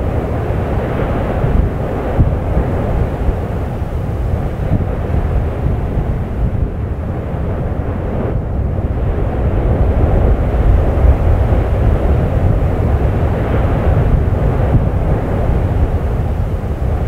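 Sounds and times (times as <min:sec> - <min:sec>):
volcanic crater roaring: 0:00.0 - 0:17.0.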